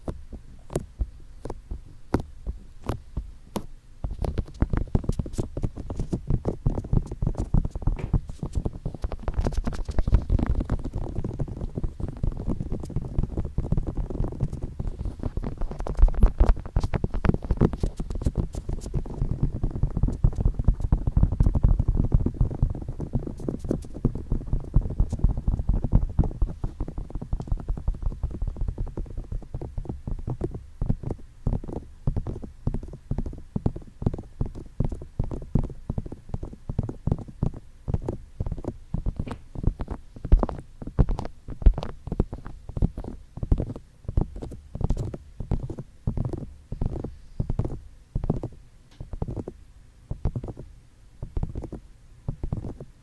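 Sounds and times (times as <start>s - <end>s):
fingers tapping microphone: 0.0s - 52.9s.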